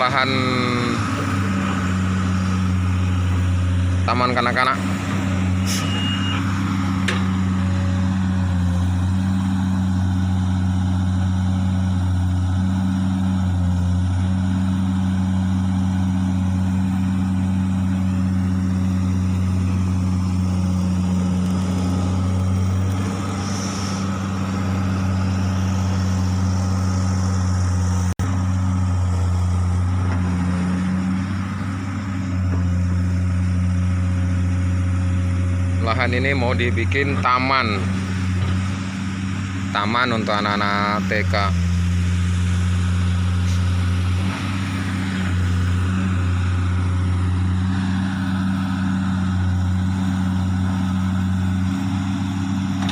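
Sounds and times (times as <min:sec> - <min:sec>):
excavator diesel engine drone: 0:00.0 - 0:52.9.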